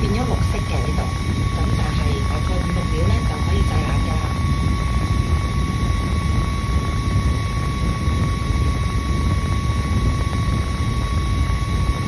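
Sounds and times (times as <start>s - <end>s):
mini fan whirring: 0.0s - 12.0s.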